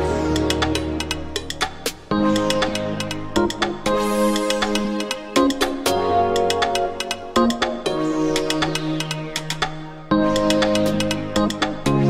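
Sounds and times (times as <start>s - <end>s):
electronic music with synth chords: 0.0s - 12.0s.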